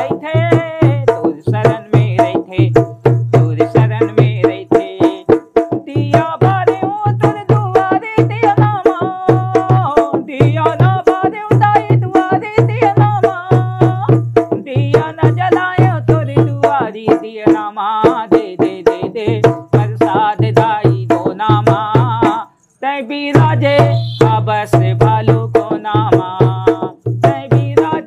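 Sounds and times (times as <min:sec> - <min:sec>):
hand drum beating: 0:00.0 - 0:22.5, 0:23.3 - 0:28.0
man singing: 0:00.0 - 0:28.0.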